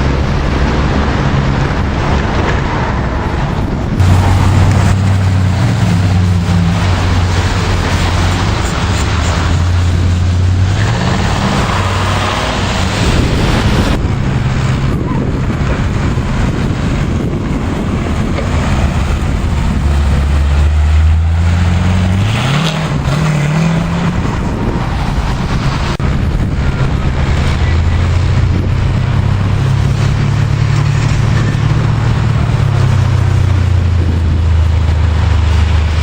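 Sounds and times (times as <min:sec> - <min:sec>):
sports car engines accelerating: 0:00.0 - 0:36.0.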